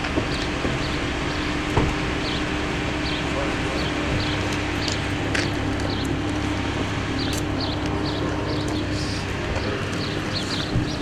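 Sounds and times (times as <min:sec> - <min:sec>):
steady low hum: 0:00.0 - 0:11.0
small birds chirping: 0:00.2 - 0:11.0.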